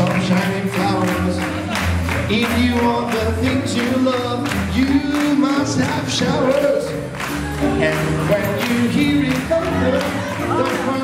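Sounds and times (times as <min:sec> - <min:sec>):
double bass: 0:00.0 - 0:11.0
guitar: 0:00.0 - 0:11.0
live swing band music: 0:00.0 - 0:11.0
person singing: 0:00.0 - 0:11.0.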